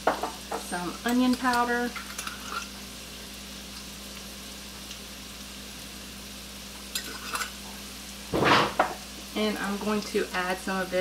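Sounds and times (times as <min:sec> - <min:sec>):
vegetables sizzling in grease: 0:00.0 - 0:11.0.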